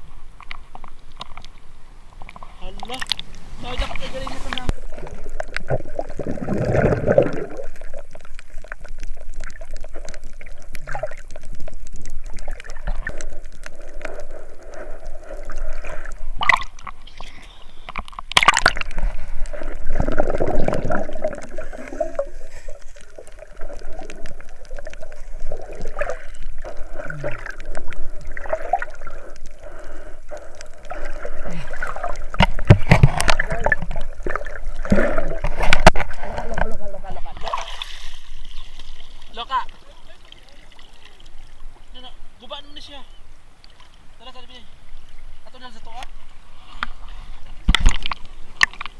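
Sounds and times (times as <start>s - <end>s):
seawater sloshing and gurgling: 2.3s - 41.6s
water splashing surges: 2.3s - 48.9s.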